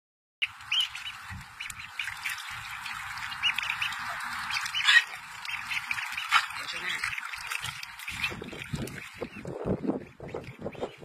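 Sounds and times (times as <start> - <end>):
ducklings peeping: 0.4 - 11.0.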